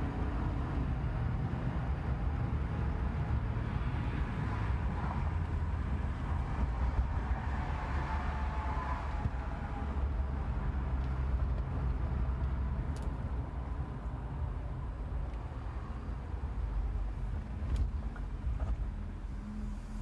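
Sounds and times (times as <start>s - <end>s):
pickup truck rumble inside cab: 0.0s - 20.0s.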